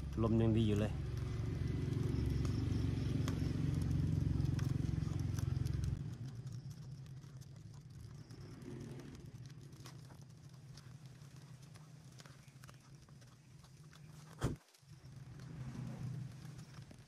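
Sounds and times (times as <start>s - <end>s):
low engine-like hum: 0.0s - 17.0s
faint ticks: 1.0s - 17.0s.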